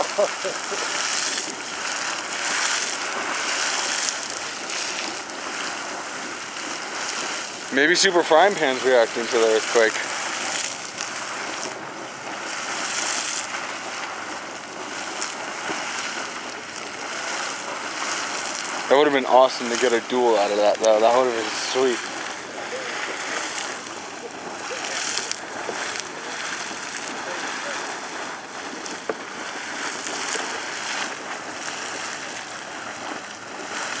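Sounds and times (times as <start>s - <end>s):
geyser hissing spray: 0.0s - 34.0s.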